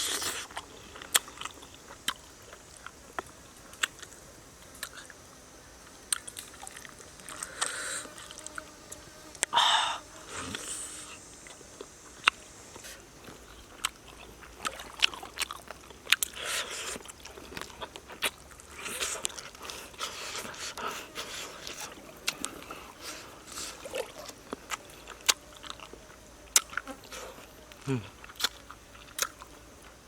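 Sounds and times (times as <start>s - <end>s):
person chewing and lip-smacking: 0.0s - 4.2s, 6.1s - 7.7s, 11.5s - 29.9s.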